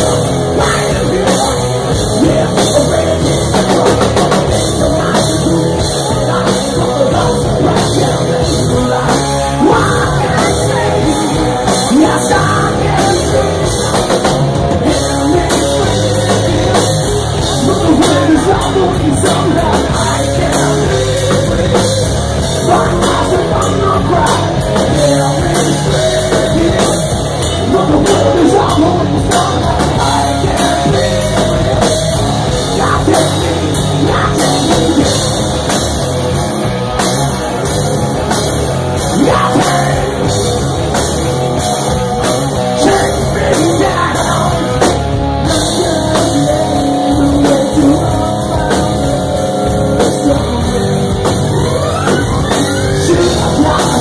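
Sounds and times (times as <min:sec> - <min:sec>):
person singing: 0:00.0 - 0:35.7, 0:39.0 - 0:41.2, 0:41.8 - 0:54.0
drum kit: 0:00.0 - 0:54.0
electric guitar: 0:00.0 - 0:54.0.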